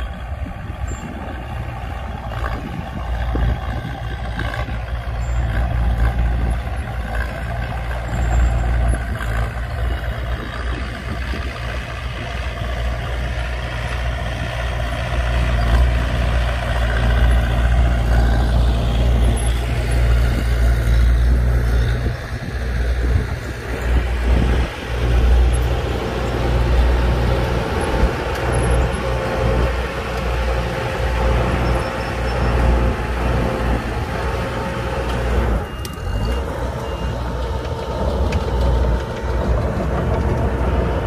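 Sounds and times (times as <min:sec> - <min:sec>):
bulldozer diesel engines running: 0:00.0 - 0:41.0.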